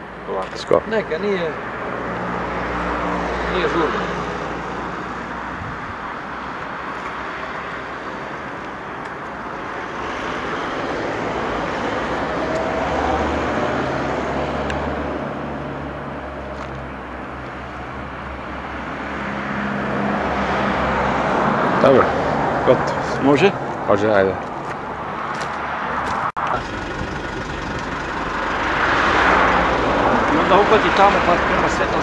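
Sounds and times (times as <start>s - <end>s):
traffic noise: 0.0s - 32.0s
vehicle engine hum: 1.8s - 32.0s.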